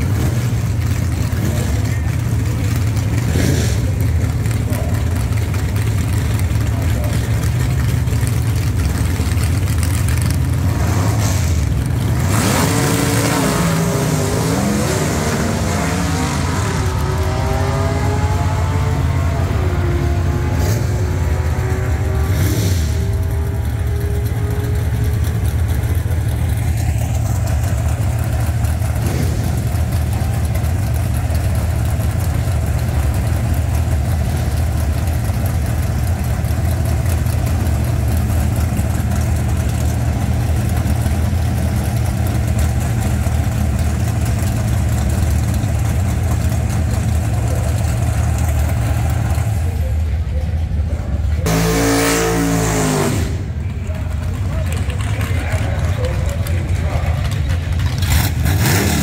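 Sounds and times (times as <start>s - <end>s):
drag racing car accelerating: 0.0s - 59.0s
low engine rumble close by: 0.0s - 59.0s.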